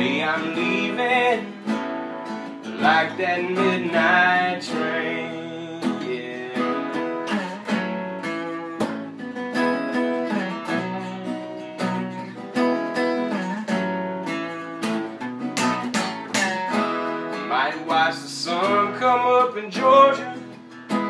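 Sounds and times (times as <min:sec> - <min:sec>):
acoustic guitars strumming: 0:00.0 - 0:21.0.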